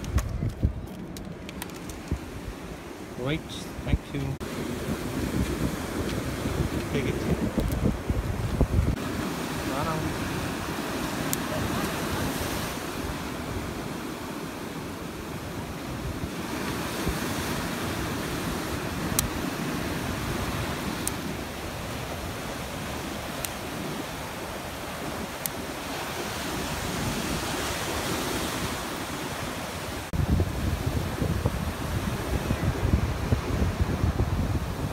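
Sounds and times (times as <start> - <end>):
wind buffeting microphone: 0.0 - 34.9
ocean waves breaking: 1.2 - 34.9.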